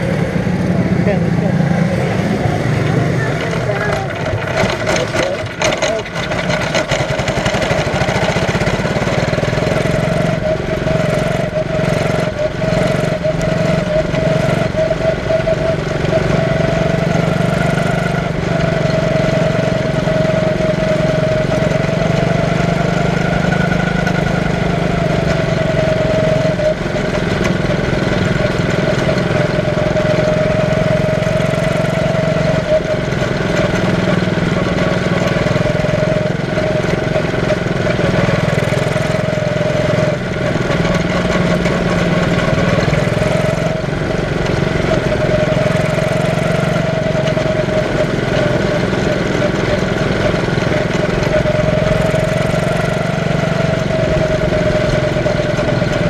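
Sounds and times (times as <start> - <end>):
small race car engine: 0.0 - 56.0.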